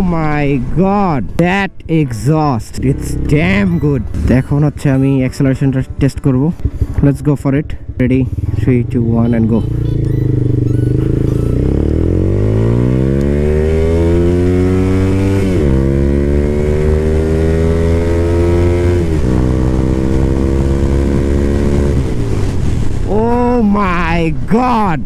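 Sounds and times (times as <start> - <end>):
motorcycle engine accelerating: 2.7 - 23.2.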